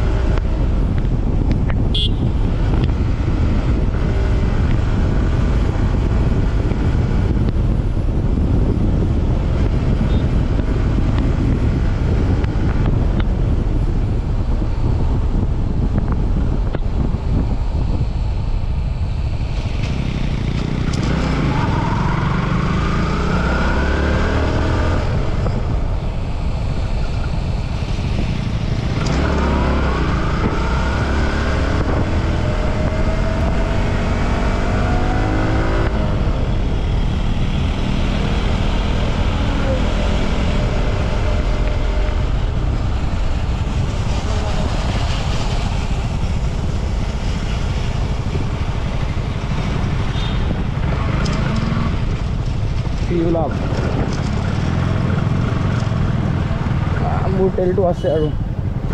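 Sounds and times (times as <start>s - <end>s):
motorcycle engine: 0.0s - 14.4s, 17.7s - 58.9s
wind rumble on microphone: 0.0s - 58.9s.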